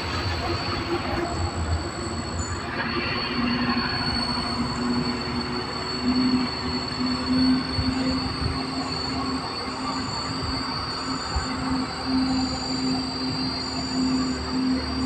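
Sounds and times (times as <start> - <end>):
lorry engine droning: 0.0 - 15.0
steady high-pitched whine: 0.0 - 15.0.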